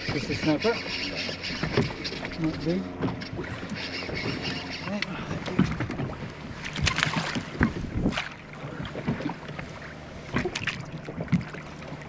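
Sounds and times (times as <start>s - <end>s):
low steady hum: 0.0s - 12.0s
water slapping boat hull: 0.0s - 12.0s.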